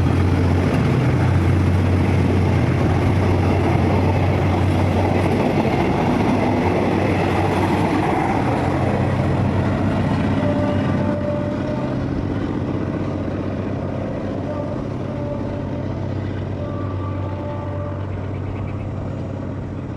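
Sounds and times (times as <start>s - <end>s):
locomotive diesel engine humming: 0.0s - 19.9s.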